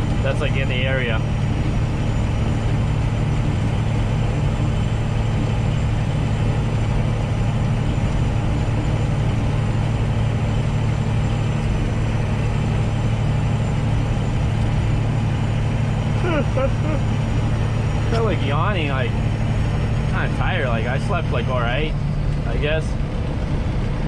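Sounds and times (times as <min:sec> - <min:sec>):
road noise: 0:00.0 - 0:24.0
truck engine droning: 0:00.0 - 0:24.0.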